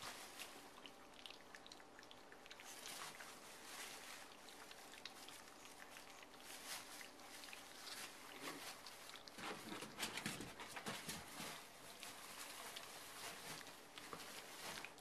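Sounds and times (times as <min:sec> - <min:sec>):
puppies lapping food: 0:00.0 - 0:15.0.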